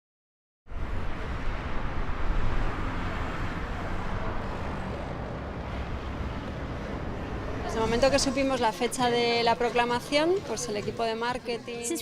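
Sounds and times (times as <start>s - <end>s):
street noise with low rumble: 0.7s - 12.0s.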